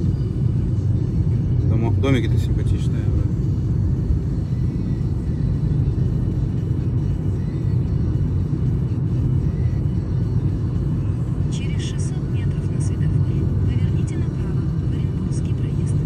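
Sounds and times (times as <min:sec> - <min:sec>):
car road and engine rumble: 0:00.0 - 0:16.0
faint background music: 0:00.0 - 0:16.0.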